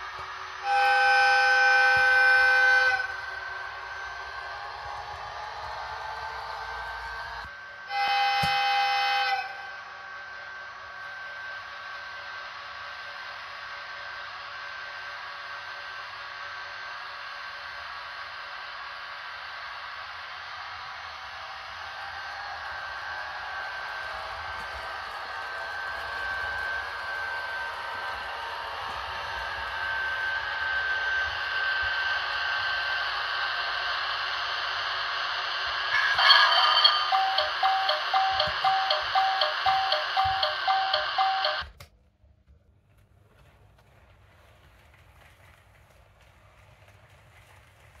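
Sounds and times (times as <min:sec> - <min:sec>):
model train motor and wheels hissing: 0:00.0 - 0:41.6
faint high whine: 0:00.0 - 0:41.8.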